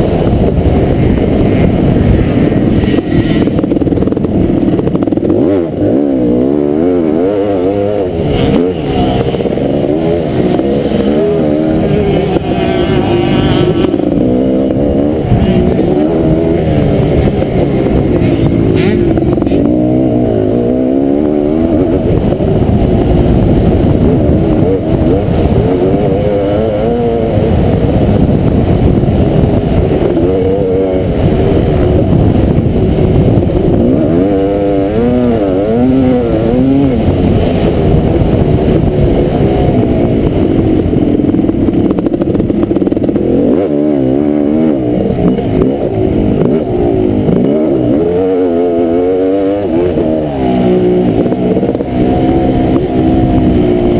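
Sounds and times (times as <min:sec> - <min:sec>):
motocross engine revving: 0:00.0 - 0:53.9.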